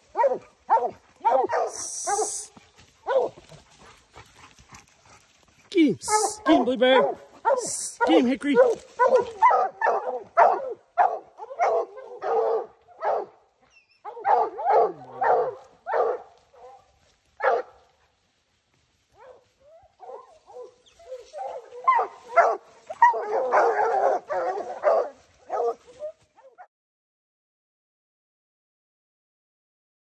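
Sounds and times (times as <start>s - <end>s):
hounds baying and barking: 0.0s - 18.3s, 19.0s - 26.7s.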